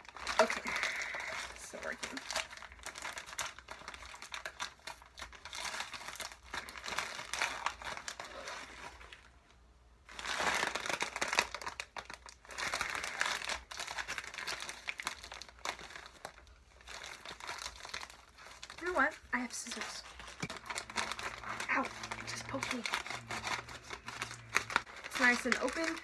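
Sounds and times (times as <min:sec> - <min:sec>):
packaging crinkling: 0:00.0 - 0:09.4, 0:10.0 - 0:26.0.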